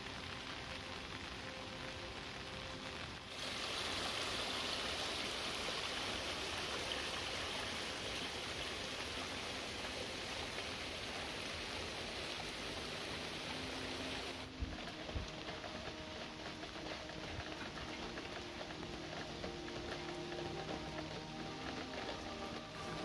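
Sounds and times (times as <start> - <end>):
steady rain hissing: 0.0 - 23.0.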